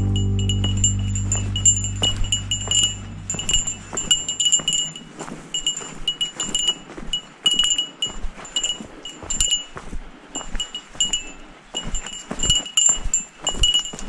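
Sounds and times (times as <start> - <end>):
bear bell jingling: 0.0 - 9.8, 10.4 - 14.0.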